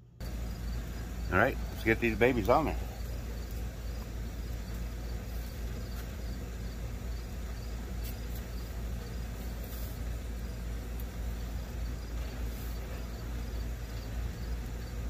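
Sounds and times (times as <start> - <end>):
background hum and hiss: 0.0 - 15.0
crickets chirping: 0.1 - 15.0.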